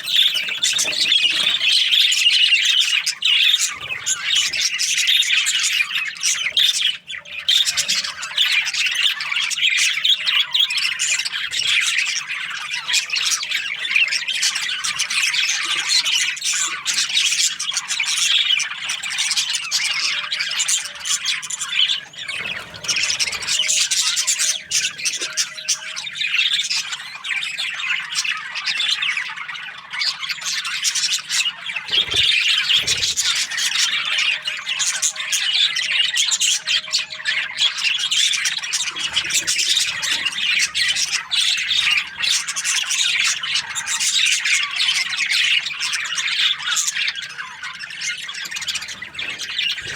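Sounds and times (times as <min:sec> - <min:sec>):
budgerigars chattering: 0:00.0 - 0:49.9.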